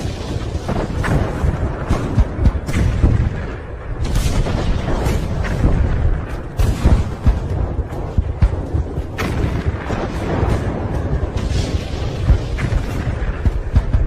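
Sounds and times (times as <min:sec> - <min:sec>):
artillery booms and gunshots: 0:00.0 - 0:14.0
low rumble of distant guns: 0:00.0 - 0:14.0.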